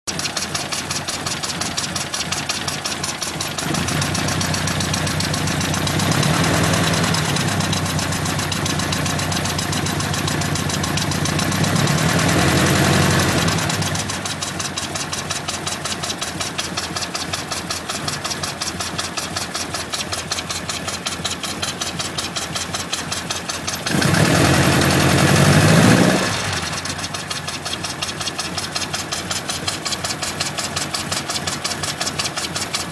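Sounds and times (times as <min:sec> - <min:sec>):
engine idling and revving: 0:00.0 - 0:32.9.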